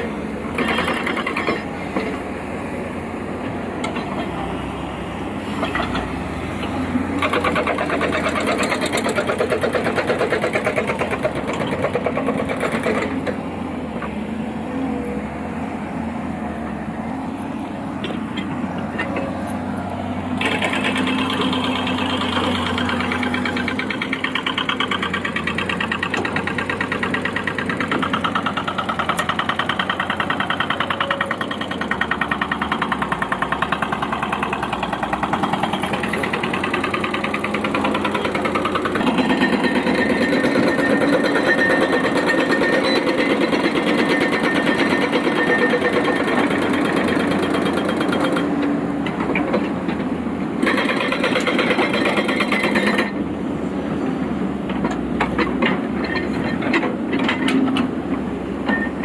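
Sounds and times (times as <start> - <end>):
diesel engine clattering: 0.0 - 59.0.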